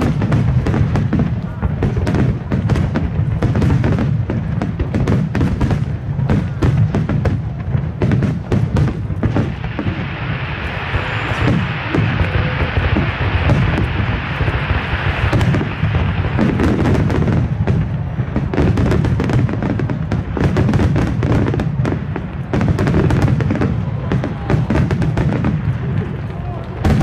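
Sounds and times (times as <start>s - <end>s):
crackling hiss: 0.0s - 27.0s
fireworks booming and cracking: 0.0s - 27.0s.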